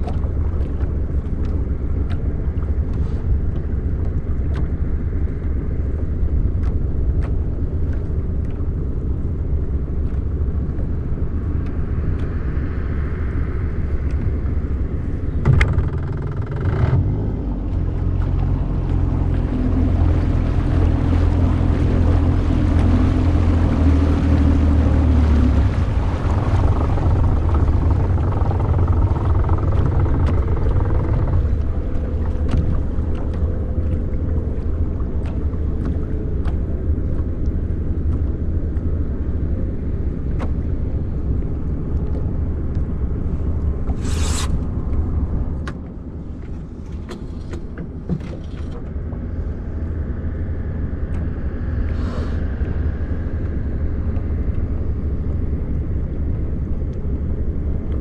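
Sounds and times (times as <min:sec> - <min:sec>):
outboard motor drone: 0:00.0 - 0:58.0.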